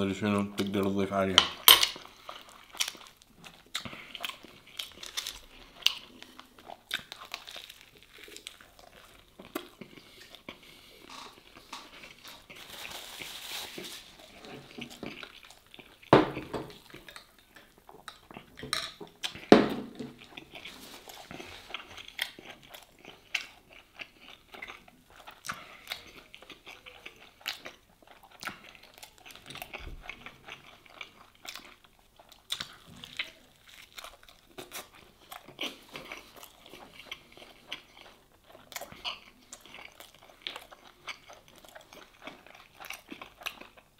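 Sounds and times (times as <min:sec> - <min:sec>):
person chewing crunchy sandwich: 0:01.6 - 0:43.9.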